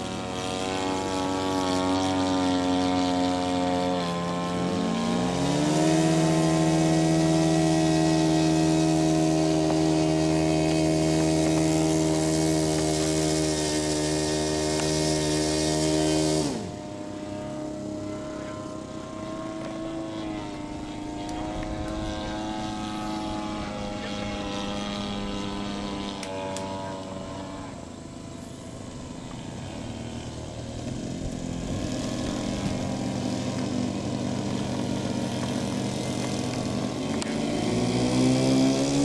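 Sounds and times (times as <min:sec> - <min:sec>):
model airplane engine running: 0:00.0 - 0:39.0.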